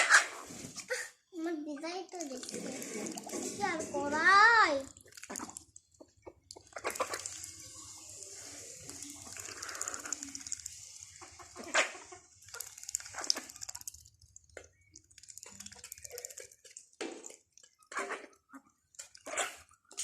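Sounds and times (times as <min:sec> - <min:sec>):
ducks splashing in water: 0:02.1 - 0:20.0.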